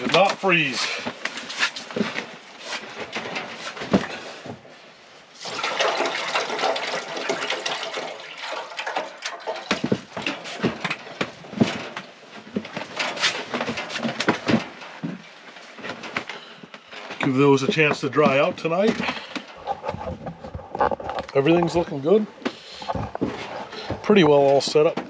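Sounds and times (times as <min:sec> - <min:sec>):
plastic jugs knocking and rustling: 0:00.0 - 0:04.8, 0:05.4 - 0:25.0.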